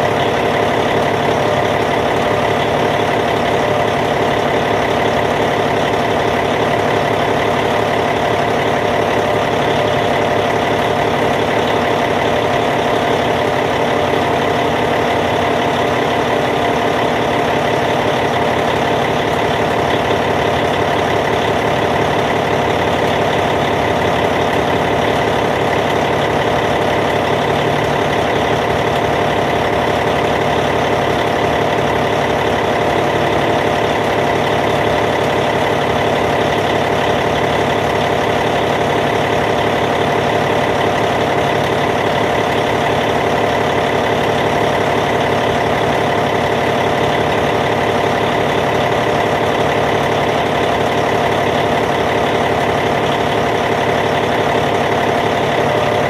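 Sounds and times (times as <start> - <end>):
bulldozer diesel engine idling: 0.0 - 56.0.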